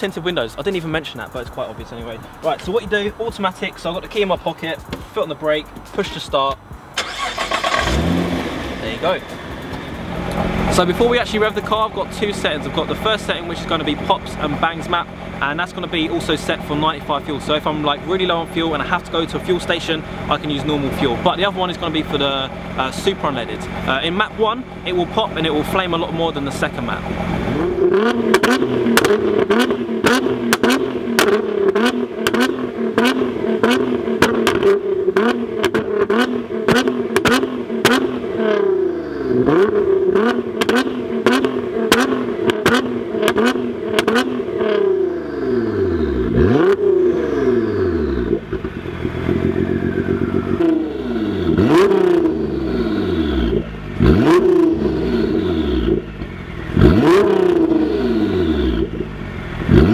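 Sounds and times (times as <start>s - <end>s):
exhaust pops crackling: 0.0s - 38.7s, 39.3s - 59.9s
car engine revving: 0.0s - 59.9s.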